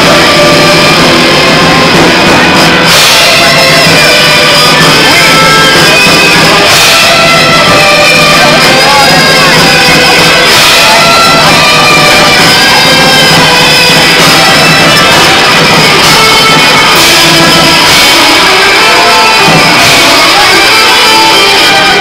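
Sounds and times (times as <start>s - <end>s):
drum kit: 0.0s - 22.0s
violin playing: 0.0s - 22.0s.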